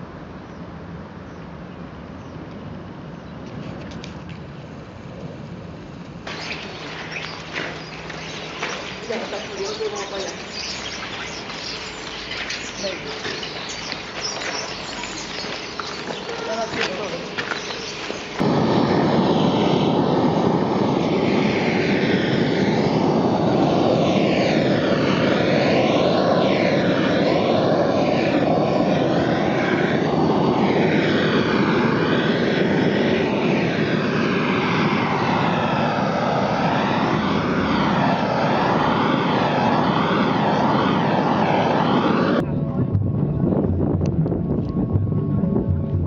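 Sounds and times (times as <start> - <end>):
gas burner flame rushing: 5.5 - 42.4.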